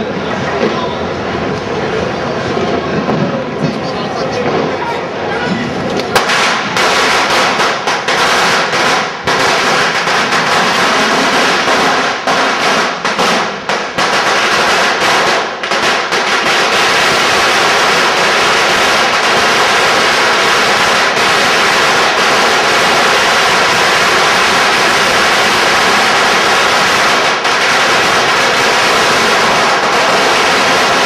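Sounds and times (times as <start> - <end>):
firecrackers going off: 0.0 - 31.0.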